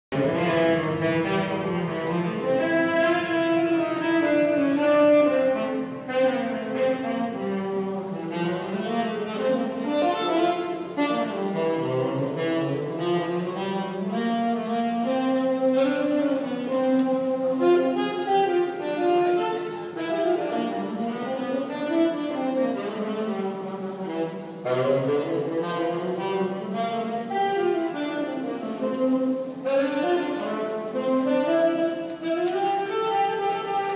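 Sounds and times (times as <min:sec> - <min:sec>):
saxophone slow melody: 0:00.1 - 0:33.9.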